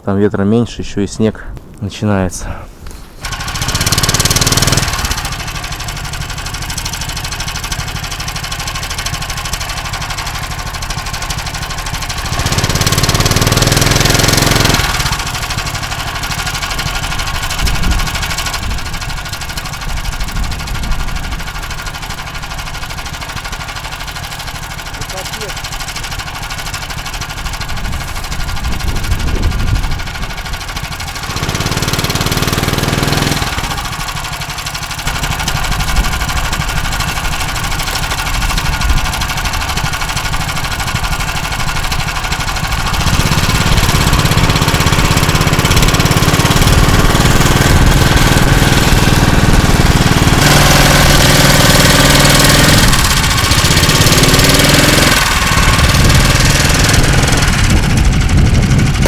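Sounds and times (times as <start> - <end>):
small engine revving under load: 3.1 - 59.0.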